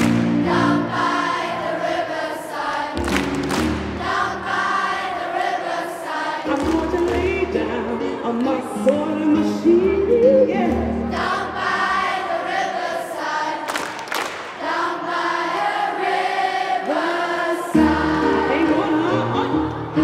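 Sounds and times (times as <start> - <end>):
children's choir singing gospel: 0.0 - 20.0.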